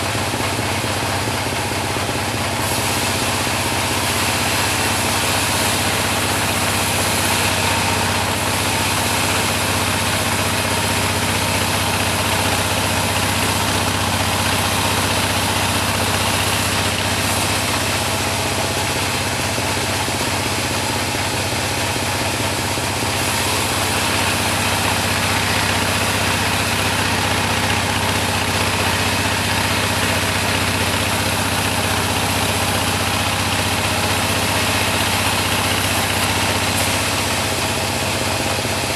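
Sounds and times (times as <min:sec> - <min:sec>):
bandsaw machine hum: 0:00.0 - 0:38.9.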